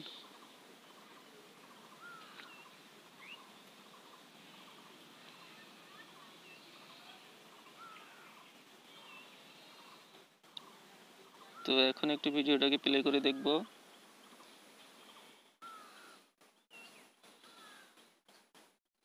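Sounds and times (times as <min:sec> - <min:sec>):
faint background hiss: 0:00.0 - 0:18.4.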